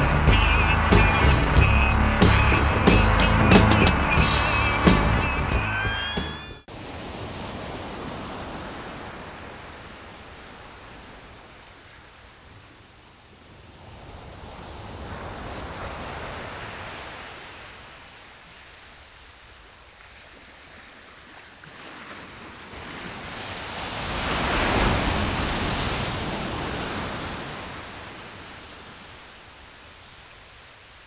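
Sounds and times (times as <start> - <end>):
waves rolling in and out: 0.0 - 31.0.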